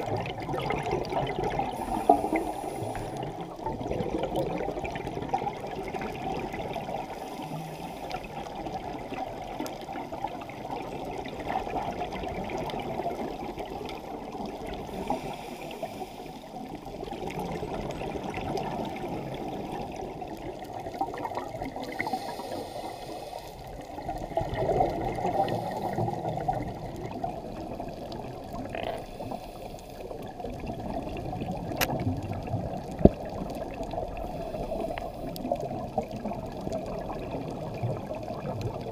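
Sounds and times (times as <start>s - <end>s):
underwater rushing and bubbling: 0.0s - 38.9s.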